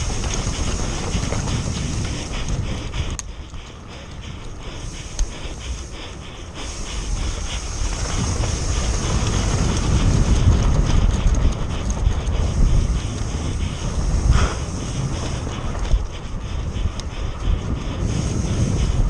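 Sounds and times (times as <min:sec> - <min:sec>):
bike rattling over bumps: 0:00.0 - 0:19.0
tyres rumbling on dirt: 0:00.0 - 0:19.0
wind buffeting microphone: 0:00.0 - 0:19.0.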